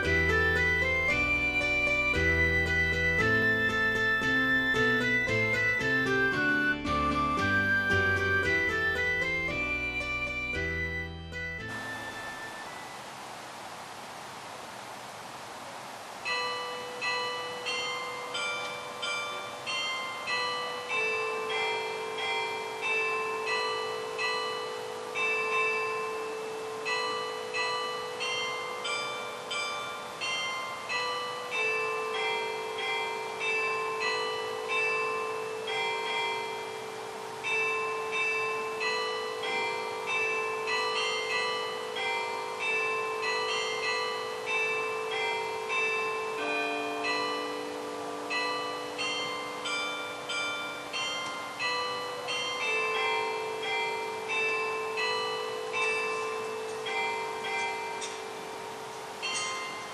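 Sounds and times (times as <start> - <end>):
church bells ringing: 0.0 - 6.8, 7.6 - 12.8, 16.2 - 59.9.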